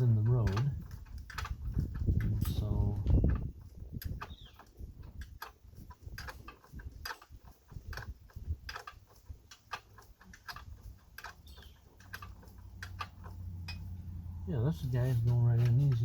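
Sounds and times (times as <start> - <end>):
wrench clicking on metal bolt: 0.0 - 14.0.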